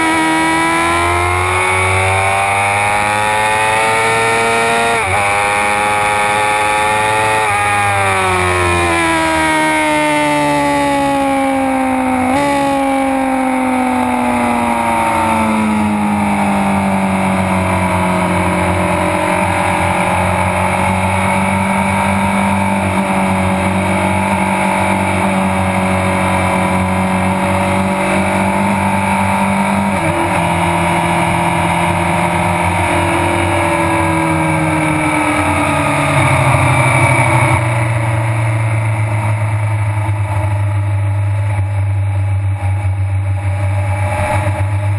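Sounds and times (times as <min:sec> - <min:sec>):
motorcycle engine at speed: 0:00.0 - 0:44.9.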